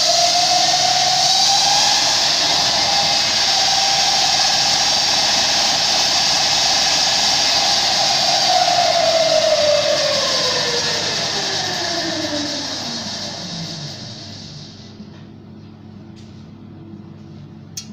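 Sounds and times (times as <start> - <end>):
electric motor high whine: 0.0 - 14.9
loud rushing hiss: 0.0 - 15.0.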